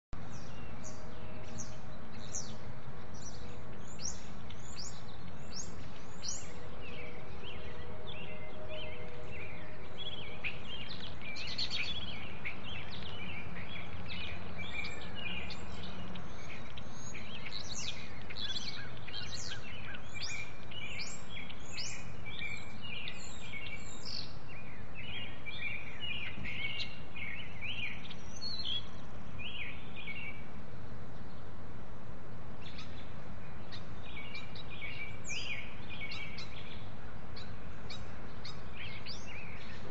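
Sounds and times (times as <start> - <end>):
low outdoor rumble: 0.2 - 39.9
small birds chirping: 0.2 - 39.9.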